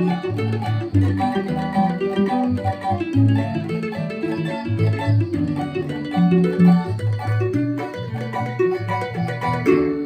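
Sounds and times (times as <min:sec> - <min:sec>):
plucked bass line: 0:00.0 - 0:10.0
rhythmic plucked strings: 0:00.0 - 0:10.0.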